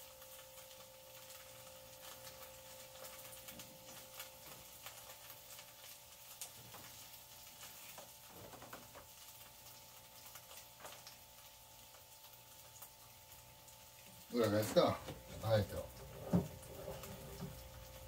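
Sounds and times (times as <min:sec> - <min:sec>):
faint steady hum: 0:00.0 - 0:18.0
tofu frying in a pan: 0:00.0 - 0:18.0.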